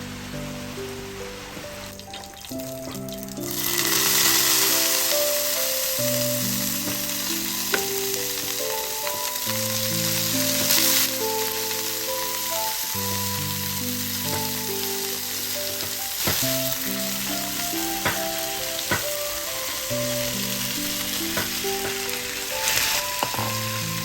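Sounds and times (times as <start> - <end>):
food sizzling in a pan: 0.0 - 24.0
soft melodic music: 0.0 - 24.0.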